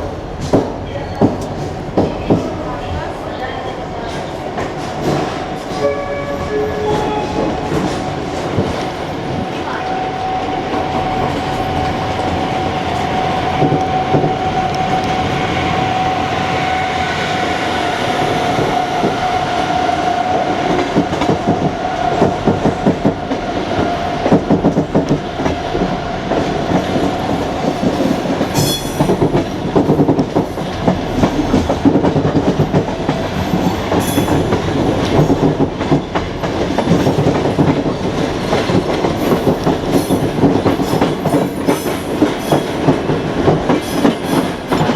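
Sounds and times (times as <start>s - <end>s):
train wheels clattering: 0.0s - 15.2s, 18.4s - 44.9s.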